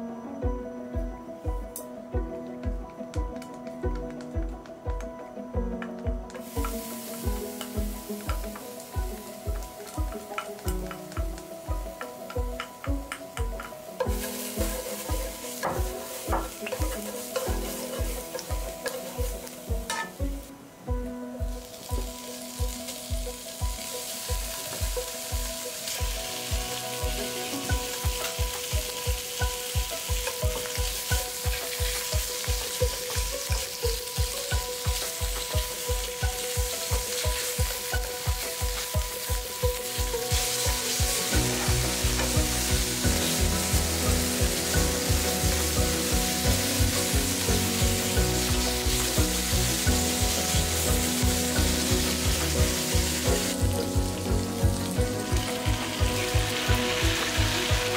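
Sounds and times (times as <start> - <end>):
background music with steady beat: 0.0 - 57.9
meat sizzling in oil: 6.3 - 57.9.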